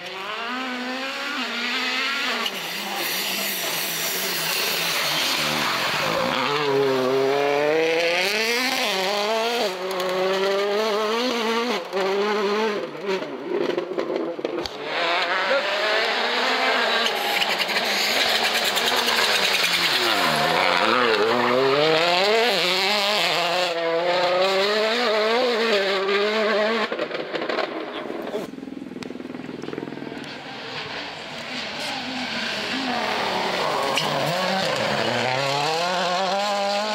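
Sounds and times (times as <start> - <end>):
rally car engines revving: 0.0 - 36.9.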